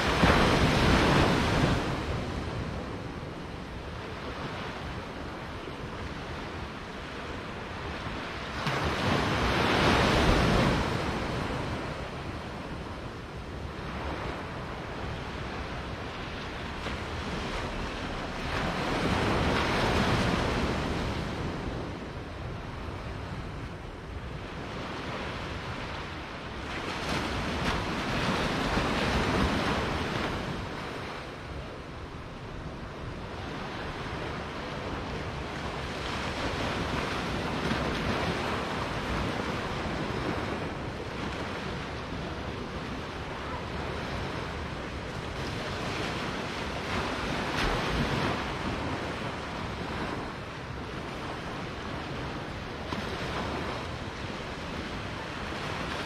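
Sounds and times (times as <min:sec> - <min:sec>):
surf washing on sand: 0:00.0 - 0:56.0
wind rumbling on microphone: 0:00.0 - 0:56.0.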